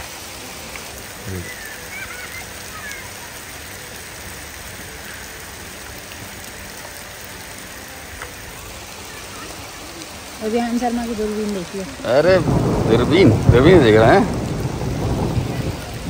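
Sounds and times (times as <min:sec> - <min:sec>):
hailstones falling: 0:00.0 - 0:16.0
rain patter: 0:00.0 - 0:16.0.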